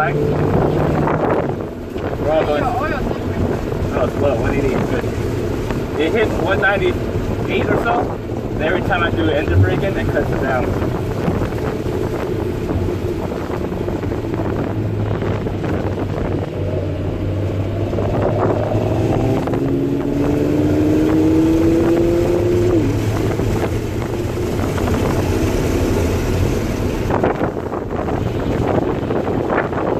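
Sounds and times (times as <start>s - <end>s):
car engine revving: 0.0s - 29.9s
wind noise: 0.0s - 29.9s.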